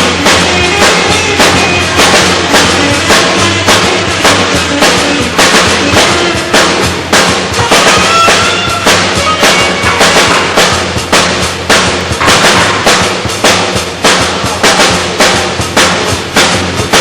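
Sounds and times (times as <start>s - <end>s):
drum kit steady beat: 0.0s - 17.0s
low bass notes: 0.0s - 17.0s.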